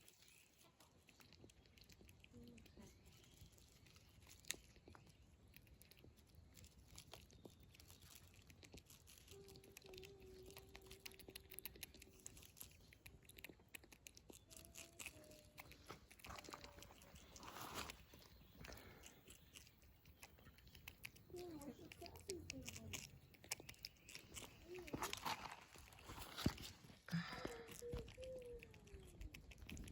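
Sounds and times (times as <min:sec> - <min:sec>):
squirrel chewing clicks: 0:00.0 - 0:29.9.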